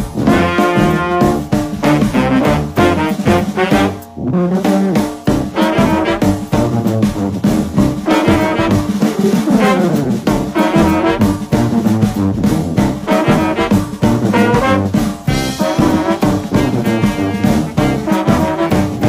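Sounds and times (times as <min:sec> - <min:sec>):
brass swing jazz music: 0:00.0 - 0:19.0.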